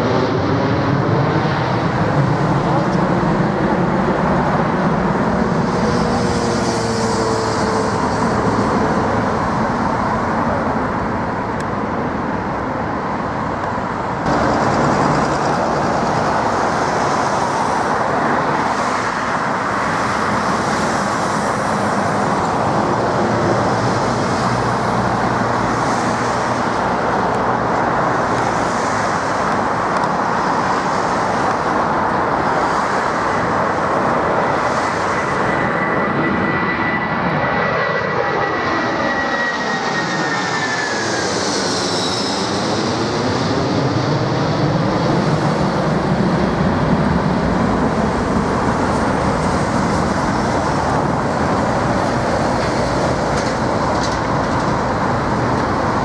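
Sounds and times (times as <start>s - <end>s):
jet engines taking off: 0.0s - 56.0s.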